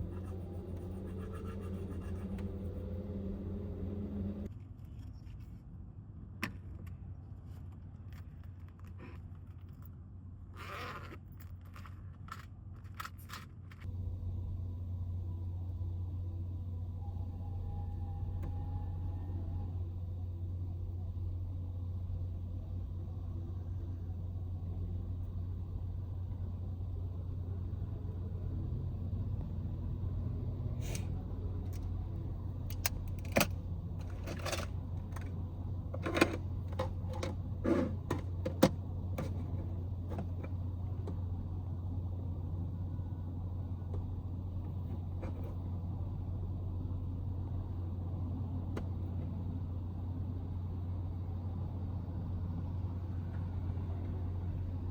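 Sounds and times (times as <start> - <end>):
low engine drone: 0.0 - 4.5, 13.8 - 54.9.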